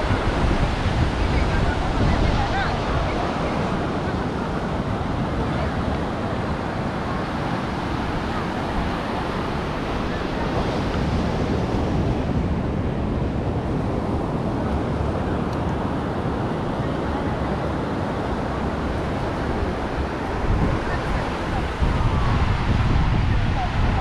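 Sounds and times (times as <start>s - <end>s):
ocean surf on sandy beach: 0.0s - 24.0s
wind rumbling on microphone: 0.0s - 24.0s.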